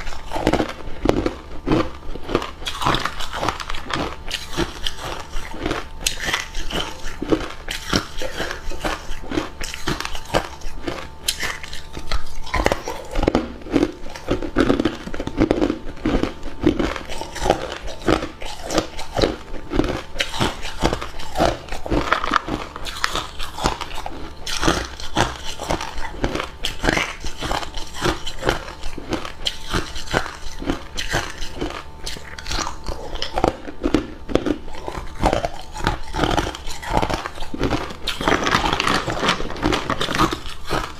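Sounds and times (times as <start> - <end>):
person chewing ice cubes: 0.0 - 40.9.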